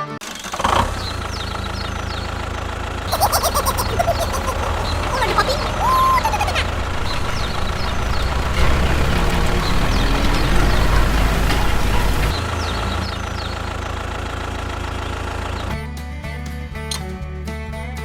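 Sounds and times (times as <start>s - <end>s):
motor running with low rumble: 0.3s - 17.9s.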